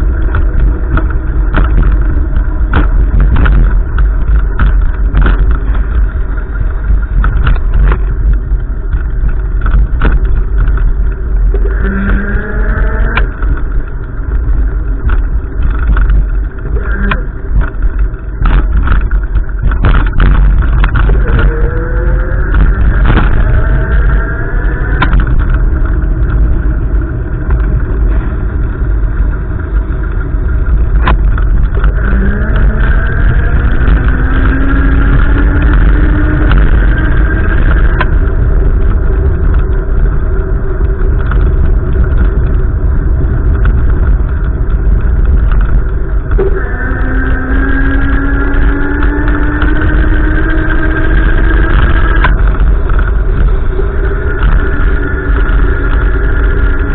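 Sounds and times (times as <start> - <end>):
car engine accelerating: 0.0 - 56.9
road and wind noise: 0.0 - 56.9.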